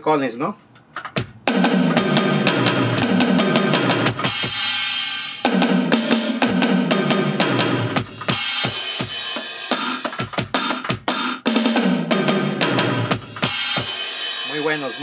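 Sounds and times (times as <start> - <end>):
electronic drum hits: 1.2 - 15.0.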